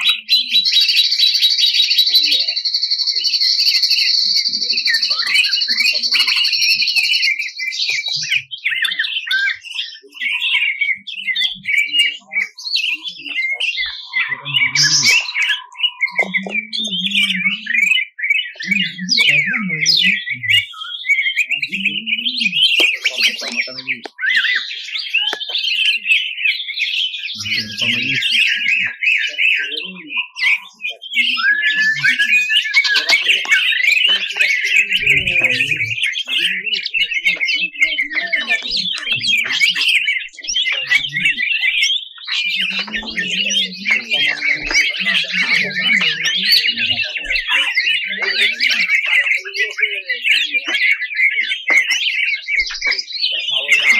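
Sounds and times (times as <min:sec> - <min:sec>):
bird chirping and trilling: 0:00.0 - 0:53.9.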